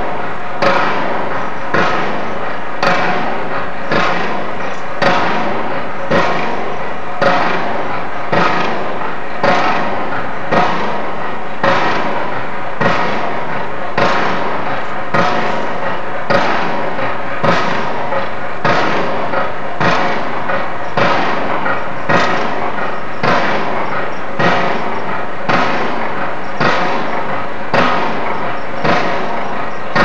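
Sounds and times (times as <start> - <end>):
loud ringing banging: 0.0 - 30.0
steady background noise: 0.0 - 30.0.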